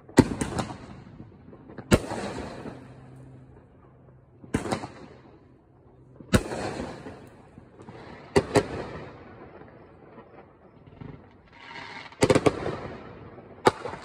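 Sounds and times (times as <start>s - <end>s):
fireworks bursting in sharp bangs: 0.0s - 5.6s, 6.2s - 14.0s.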